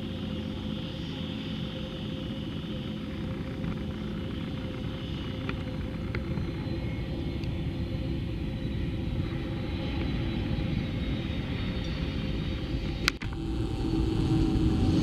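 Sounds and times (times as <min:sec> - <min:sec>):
airliner engines low rumble: 0:00.0 - 0:15.0
faint steady whines: 0:00.0 - 0:15.0.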